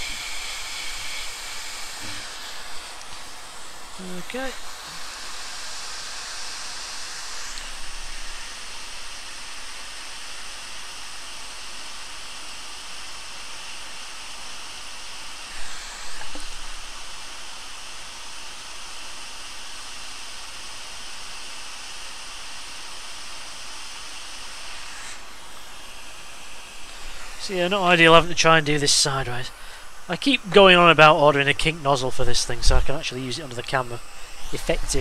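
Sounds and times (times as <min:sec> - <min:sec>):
hot air station hissing: 0:00.0 - 0:12.6, 0:13.7 - 0:35.0.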